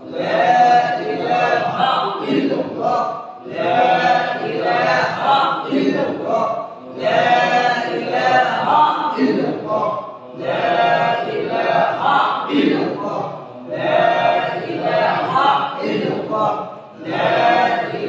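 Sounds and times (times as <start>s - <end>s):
men chanting in unison: 0.0s - 18.0s.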